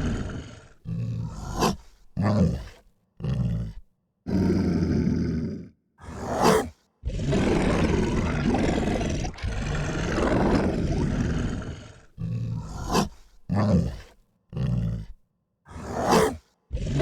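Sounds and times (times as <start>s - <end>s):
dog growling: 0.0s - 5.7s, 7.1s - 13.2s, 13.8s - 17.0s.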